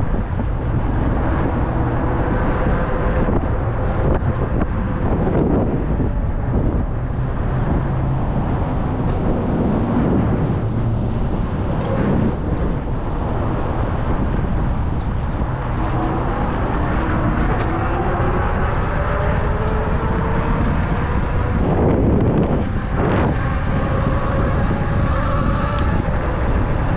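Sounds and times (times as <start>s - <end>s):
wind rumbling on microphone: 0.0s - 26.9s.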